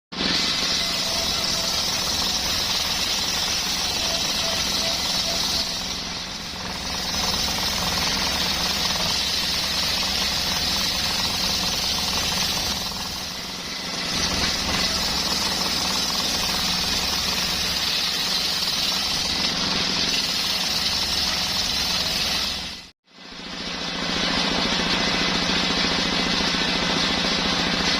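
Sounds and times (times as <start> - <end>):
high-pitched saw blade cutting wood: 0.2 - 22.9.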